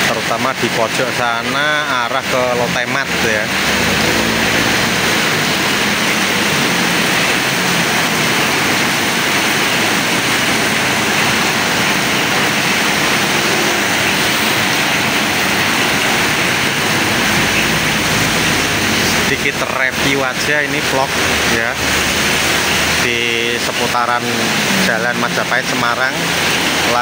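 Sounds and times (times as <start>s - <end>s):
heavy rain on asphalt: 0.0s - 27.0s.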